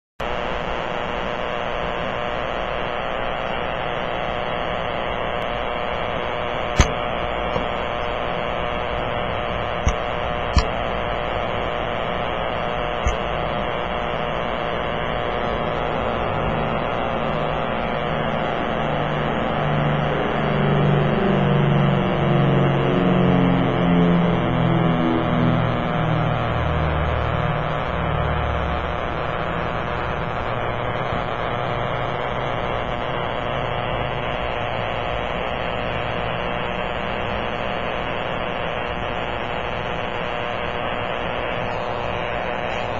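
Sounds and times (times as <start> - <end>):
sharp static pops: 0.2 - 19.2, 27.1 - 42.9
buzzing radio static with hum: 0.2 - 42.9.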